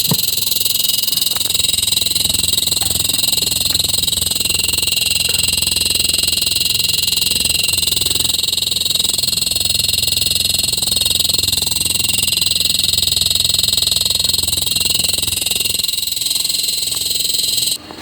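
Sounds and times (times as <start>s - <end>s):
refrigerator fan pulsing buzz: 0.0s - 18.0s.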